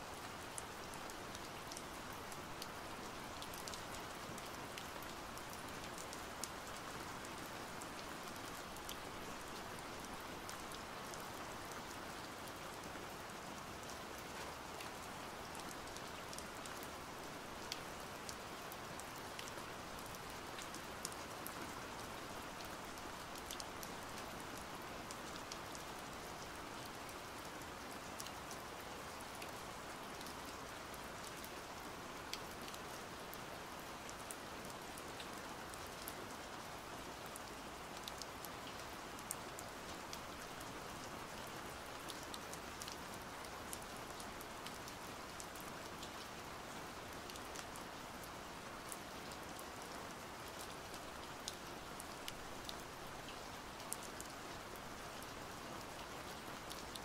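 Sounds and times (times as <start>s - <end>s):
steady rain falling: 0.0s - 57.0s
sharp raindrops: 0.1s - 57.0s.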